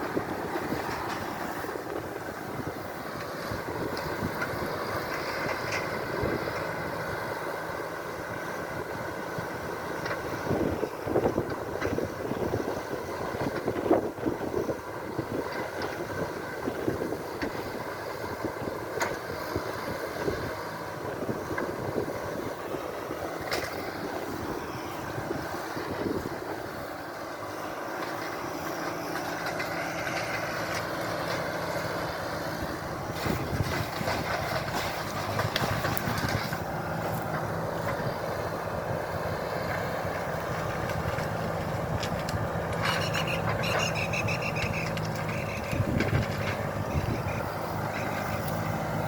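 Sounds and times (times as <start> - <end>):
engine running steadily: 0.0 - 49.0.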